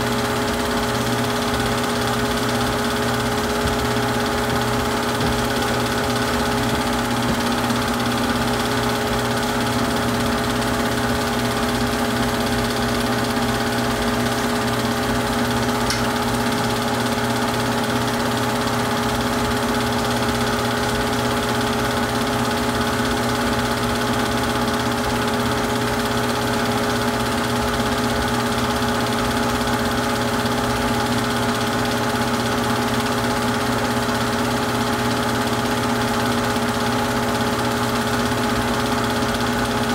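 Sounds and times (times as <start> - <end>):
film projector humming and whirring: 0.0 - 39.9.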